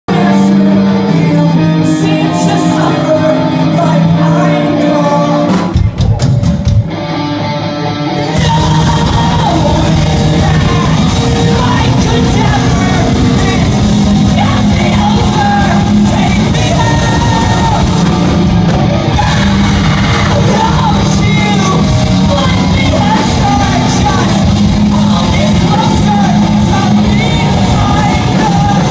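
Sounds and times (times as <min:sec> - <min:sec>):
person singing: 0:00.0 - 0:06.4, 0:07.8 - 0:18.3, 0:18.9 - 0:28.9
drums: 0:00.1 - 0:28.9
live rock band playing: 0:00.1 - 0:28.9.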